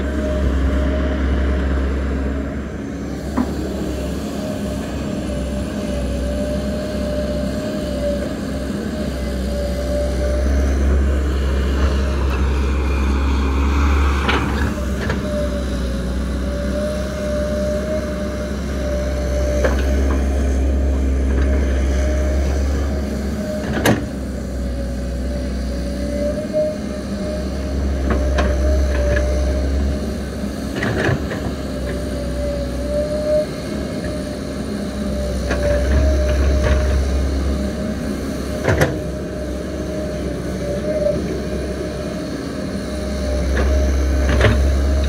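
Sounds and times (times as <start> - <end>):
excavator diesel engine rumble: 0.0 - 45.0
steady whine: 0.0 - 45.0.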